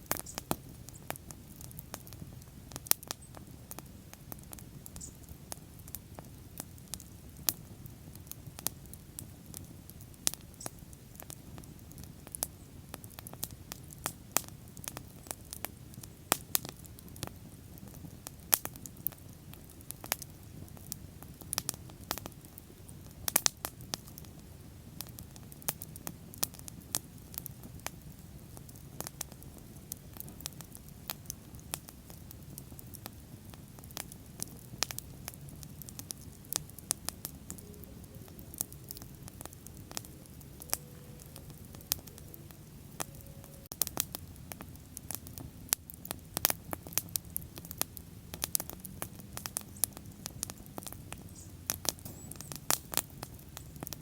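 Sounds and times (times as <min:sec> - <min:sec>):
bonfire crackling and popping: 0:00.0 - 0:54.0
low rumble of flames: 0:00.0 - 0:54.0.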